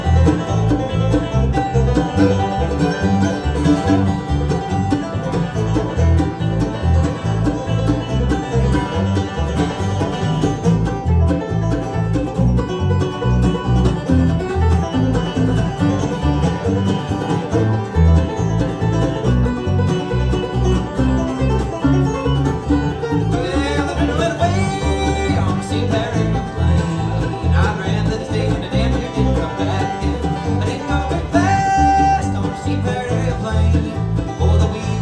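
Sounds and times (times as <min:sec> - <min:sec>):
banjo picking: 0:00.0 - 0:35.0
bluegrass band playing: 0:00.0 - 0:35.0
low bass notes: 0:00.0 - 0:35.0.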